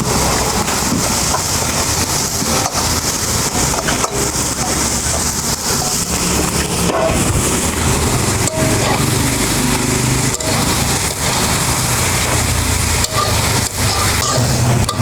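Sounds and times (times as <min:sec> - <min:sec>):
greens sizzling in hot oil: 0:00.0 - 0:15.0.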